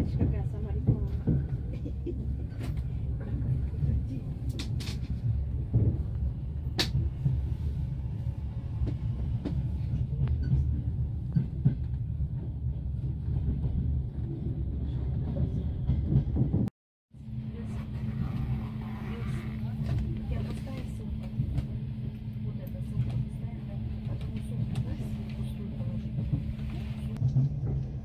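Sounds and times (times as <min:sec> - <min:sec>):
train carriage rumble: 0:00.0 - 0:28.0.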